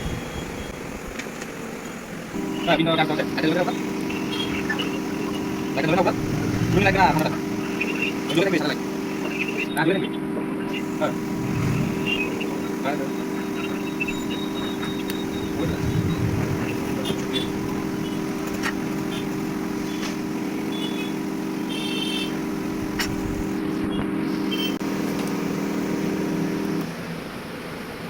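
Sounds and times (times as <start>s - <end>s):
small motor humming: 0.0s - 28.0s.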